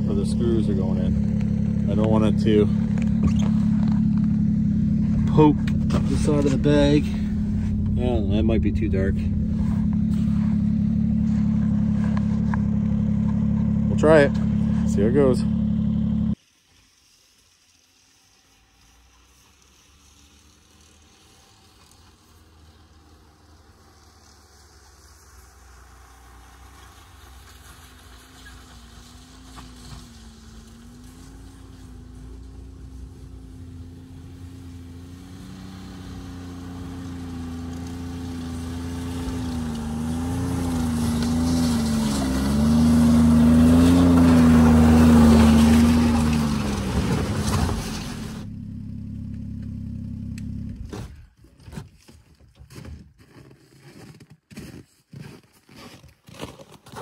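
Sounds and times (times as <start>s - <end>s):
snowmobile engine: 0.0s - 16.4s, 17.0s - 51.2s.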